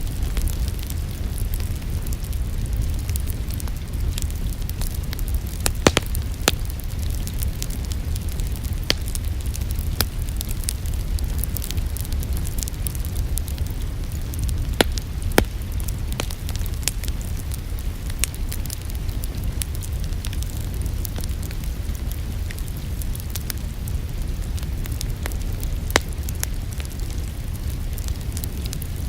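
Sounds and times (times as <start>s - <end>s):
fire popping: 0.0s - 29.0s
wood fire crackling: 0.0s - 29.0s.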